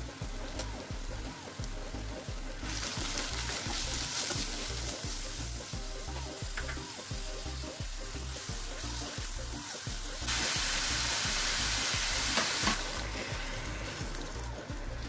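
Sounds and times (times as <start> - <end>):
background music with steady beat: 0.0 - 15.0
food sizzling in hot oil: 0.0 - 15.0.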